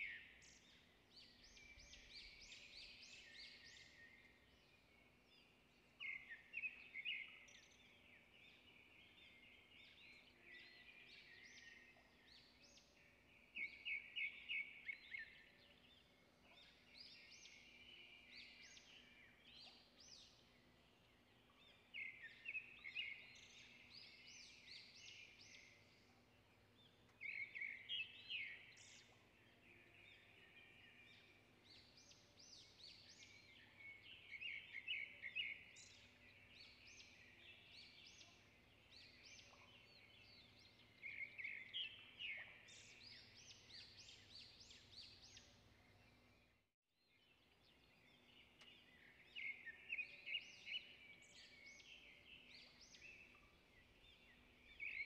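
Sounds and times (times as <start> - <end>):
birds chirping and singing: 0.0 - 46.5, 47.3 - 55.0.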